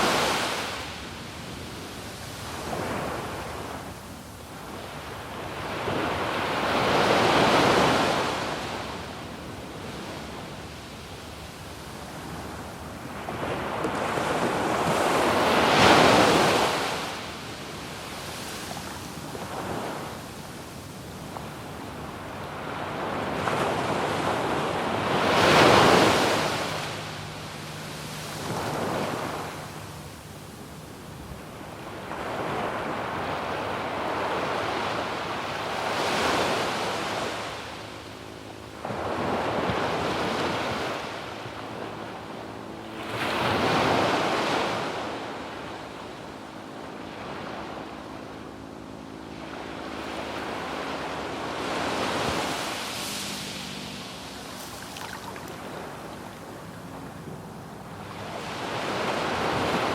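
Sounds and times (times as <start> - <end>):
waves breaking on sandy beach: 0.0 - 59.9.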